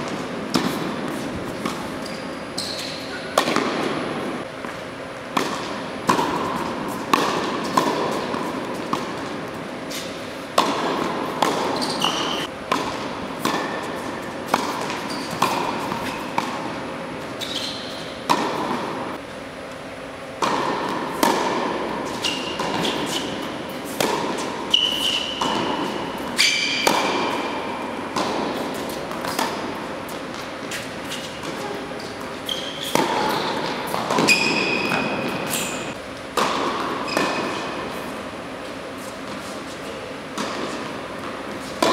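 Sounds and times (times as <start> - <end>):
tennis balls struck and bouncing: 0.0 - 2.1, 3.0 - 41.9
shoes squeaking on court: 0.0 - 19.3, 20.4 - 41.9.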